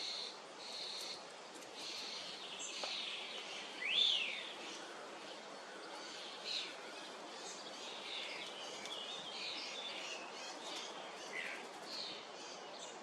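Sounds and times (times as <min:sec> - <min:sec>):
small birds chirping: 0:00.0 - 0:13.0
steady outdoor hiss: 0:00.0 - 0:13.0.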